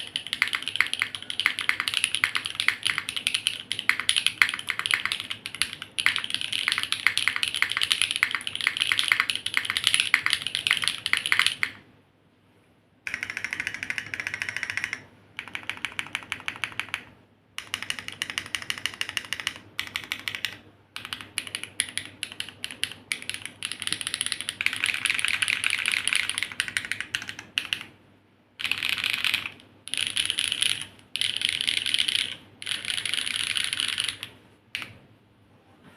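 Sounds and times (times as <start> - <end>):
typing on mechanical keyboard: 0.0 - 11.8, 13.1 - 27.9, 28.6 - 34.9.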